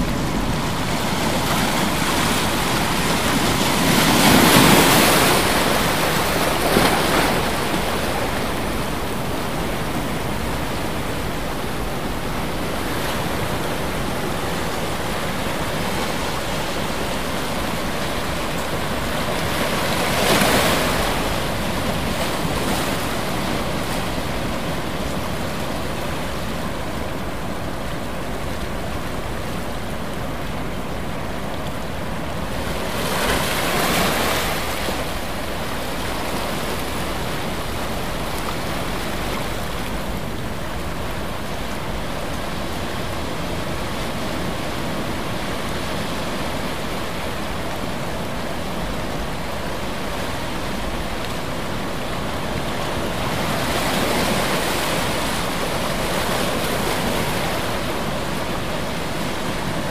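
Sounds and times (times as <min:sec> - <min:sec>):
ocean waves breaking: 0:00.0 - 0:59.9
steady rush of water: 0:00.0 - 0:59.9.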